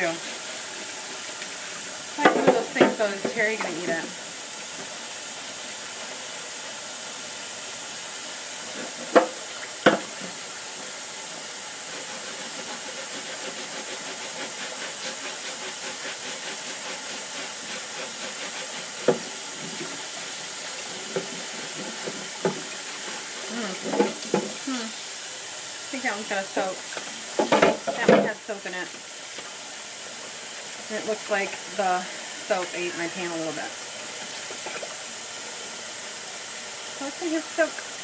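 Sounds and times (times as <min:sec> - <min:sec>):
tap water running into sink: 0:00.0 - 0:06.6, 0:08.5 - 0:24.7, 0:25.9 - 0:38.0.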